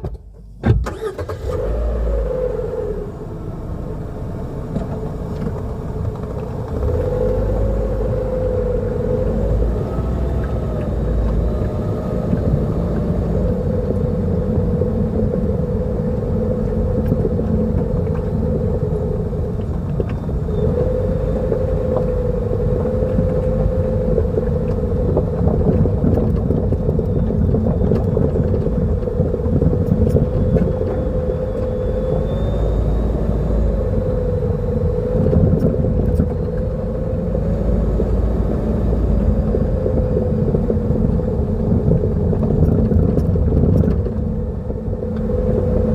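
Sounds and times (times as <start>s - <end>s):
car road rumble: 0.0s - 45.9s.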